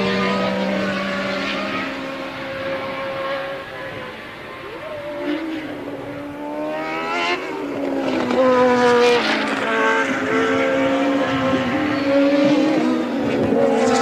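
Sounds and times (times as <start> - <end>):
engine upshifting: 0.0 - 14.0
race car engines racing: 0.0 - 14.0.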